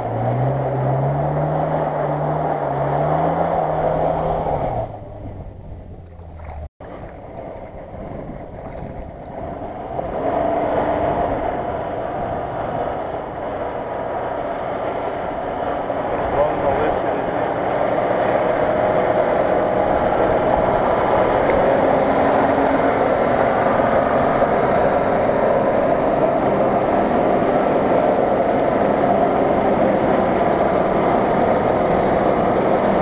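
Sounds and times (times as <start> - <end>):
engine revving: 0.0 - 6.7, 9.3 - 33.0
water washing around wheels: 0.0 - 33.0.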